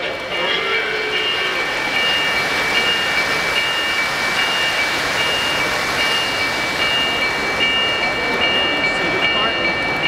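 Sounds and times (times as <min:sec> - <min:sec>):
model train wheels on metal track: 0:00.0 - 0:10.0
pulsing electronic bell tone: 0:00.6 - 0:10.0.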